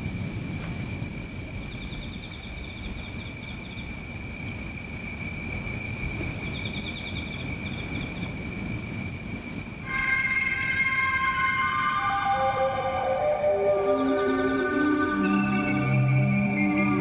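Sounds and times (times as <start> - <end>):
low rumbling hiss: 0.0 - 17.0
rapid cricket chirping: 0.0 - 17.0
high-pitched insect trill: 0.2 - 17.0.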